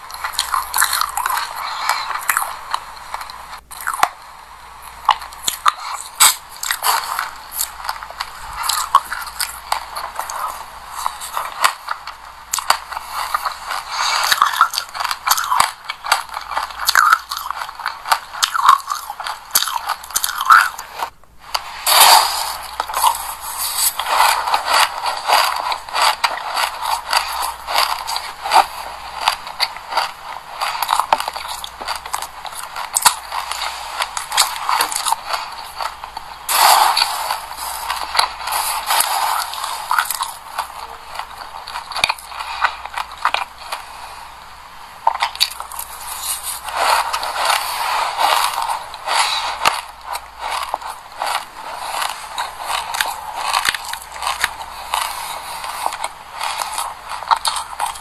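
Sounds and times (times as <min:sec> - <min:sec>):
chewing crunchy seeds: 0:00.0 - 0:58.0.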